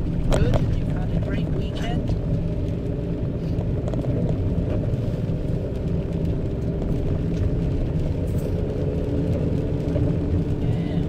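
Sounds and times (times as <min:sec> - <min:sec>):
road noise: 0:00.0 - 0:11.0
van engine drone: 0:00.0 - 0:11.0.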